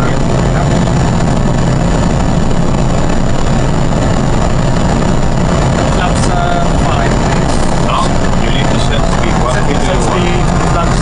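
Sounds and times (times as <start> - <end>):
engine and airflow rumble: 0.0 - 11.0
faint high whine: 0.0 - 11.0.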